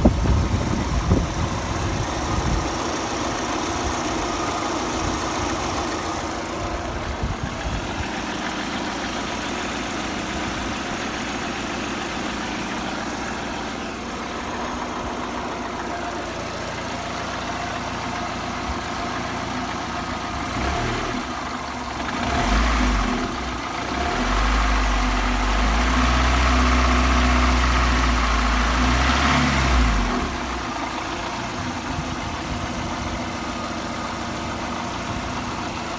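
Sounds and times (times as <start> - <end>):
car engine idling and revving: 0.0 - 35.9
engine knocking: 0.0 - 35.9.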